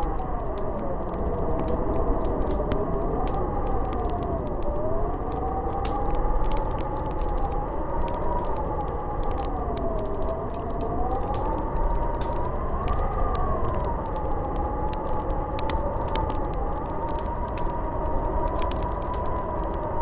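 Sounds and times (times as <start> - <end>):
light crackling clicks: 0.0 - 20.0
snowstorm wind howling: 0.0 - 20.0.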